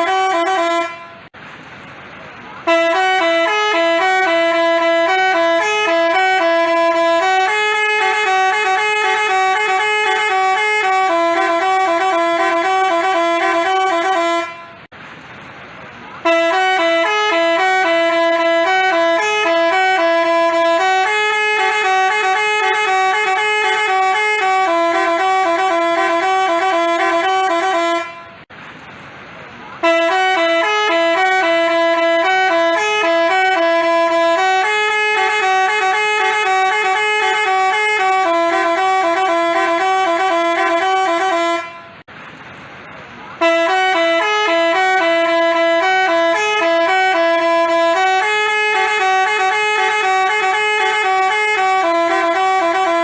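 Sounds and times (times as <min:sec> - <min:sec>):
musical horn playing a melody: 0:00.0 - 0:01.3, 0:02.6 - 0:14.9, 0:16.2 - 0:28.4, 0:29.8 - 0:42.0, 0:43.4 - 0:53.0.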